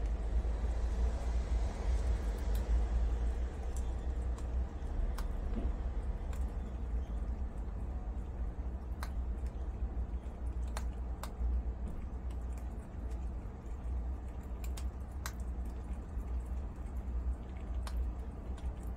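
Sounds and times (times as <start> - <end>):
animals chewing crisp food: 0.0 - 18.9
steady low hum: 0.0 - 18.9.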